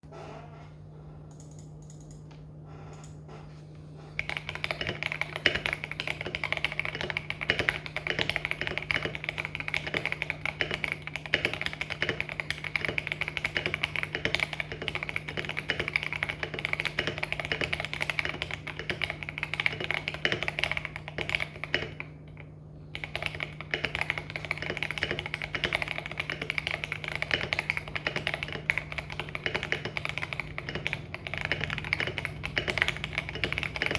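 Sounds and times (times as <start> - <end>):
steady low hum: 0.0 - 33.9
fast typing on mechanical keyboard: 4.2 - 33.9.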